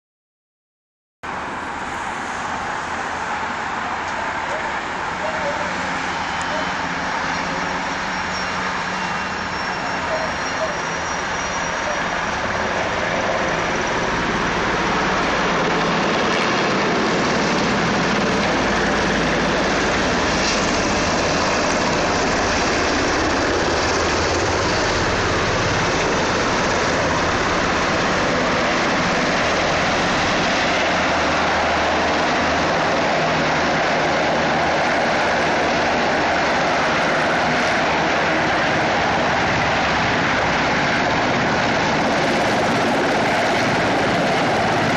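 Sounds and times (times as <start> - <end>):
helicopter flying overhead: 1.3 - 44.9.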